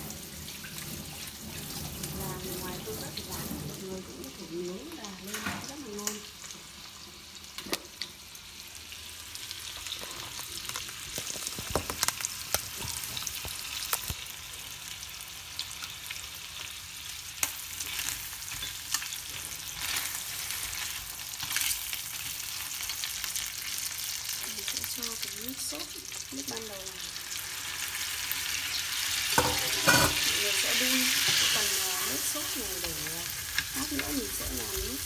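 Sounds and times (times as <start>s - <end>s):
chicken sizzling in a pan: 0.0s - 35.0s.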